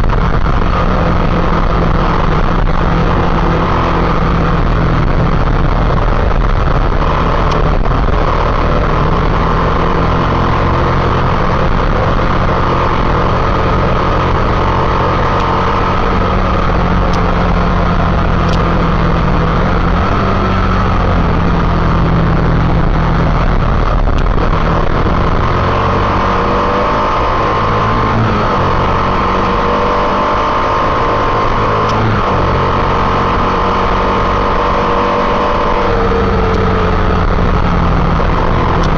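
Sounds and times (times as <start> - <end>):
constant rushing noise: 0.0 - 38.9
motorcycle engine running: 0.0 - 38.9.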